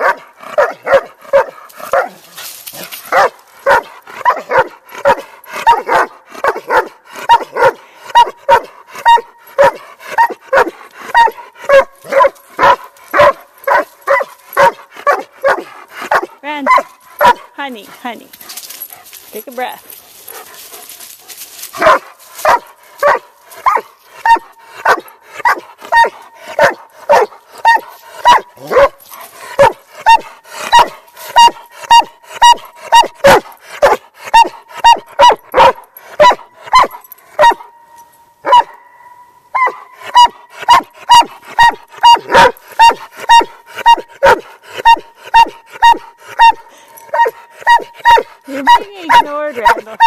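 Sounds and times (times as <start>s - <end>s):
dog barking: 0.0s - 2.2s, 3.1s - 17.5s, 21.8s - 37.7s, 38.4s - 50.0s.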